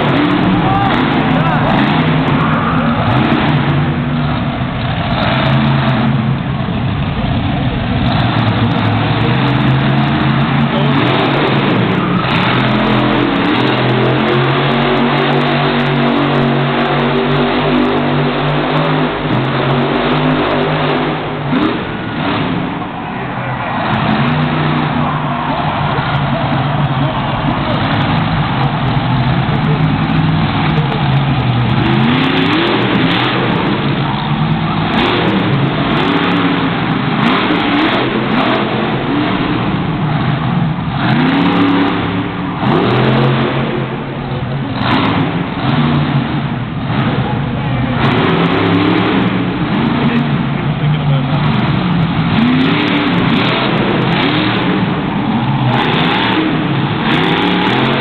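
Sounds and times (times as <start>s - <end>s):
arena crowd noise: 0.0s - 58.0s
monster truck engine revving: 0.0s - 58.0s.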